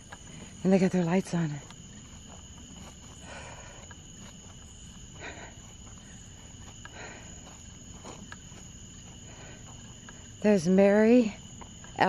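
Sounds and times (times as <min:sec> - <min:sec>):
soft rustles: 0:00.0 - 0:10.6
crickets chirring: 0:00.0 - 0:12.0.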